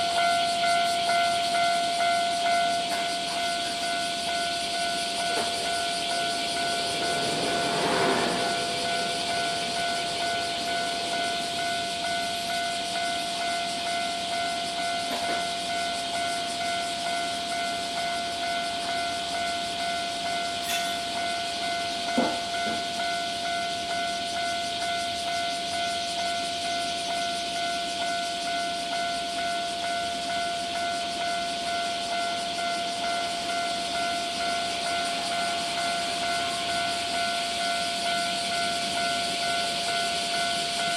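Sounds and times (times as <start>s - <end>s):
level-crossing alarm ringing: 0.0s - 40.9s.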